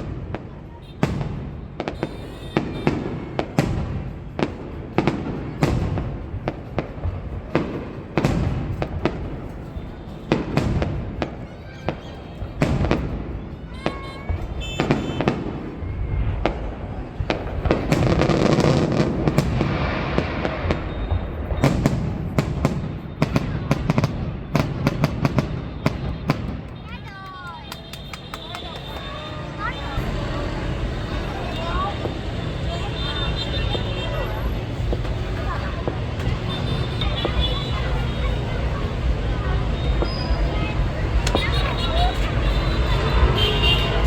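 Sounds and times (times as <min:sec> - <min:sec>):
fireworks bursting with loud bangs: 0:00.0 - 0:44.0.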